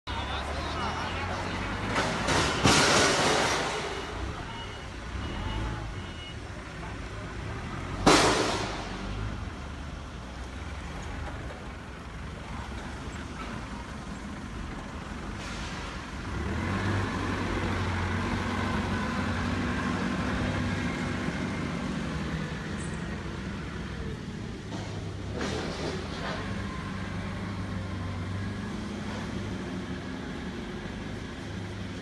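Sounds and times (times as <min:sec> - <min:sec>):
heavy vehicle engine running: 0:00.1 - 0:32.0.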